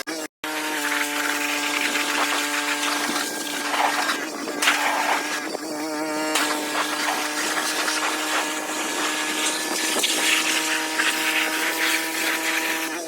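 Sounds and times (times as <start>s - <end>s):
motor humming: 0.4s - 13.0s.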